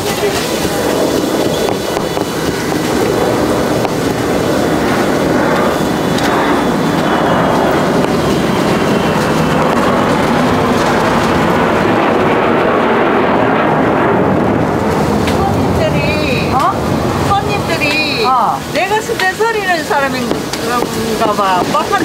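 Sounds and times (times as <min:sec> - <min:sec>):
steam cooker rushing roar: 0:00.0 - 0:22.0.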